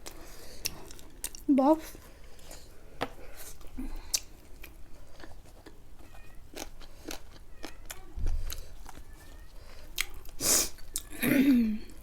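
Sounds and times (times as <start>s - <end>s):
person chewing fried bread: 0.0s - 11.2s.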